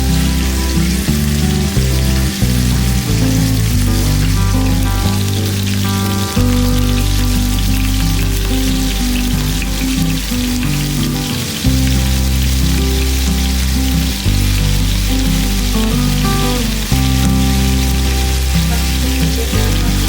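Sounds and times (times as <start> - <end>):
background music with bass line: 0.0 - 20.0
food frying in oil: 0.0 - 20.0.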